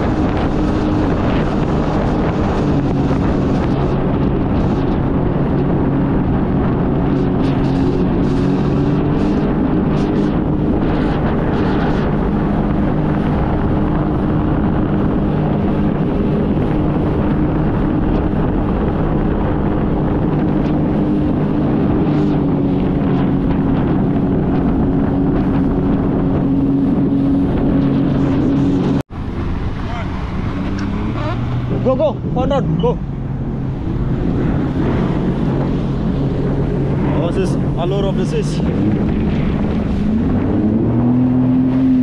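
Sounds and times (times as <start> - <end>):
jet ski engine running: 0.0 - 42.0
wind on microphone: 0.0 - 42.0.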